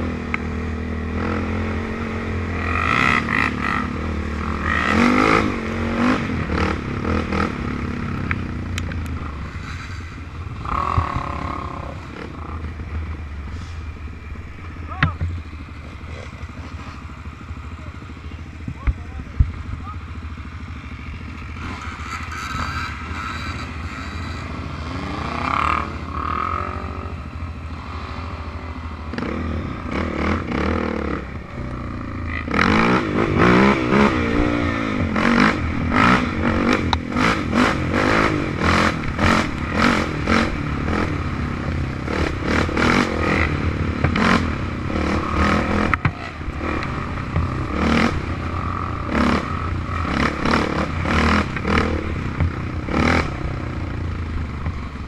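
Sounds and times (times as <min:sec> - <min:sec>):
vehicle engine revving: 0:00.0 - 0:13.8, 0:21.2 - 0:55.0.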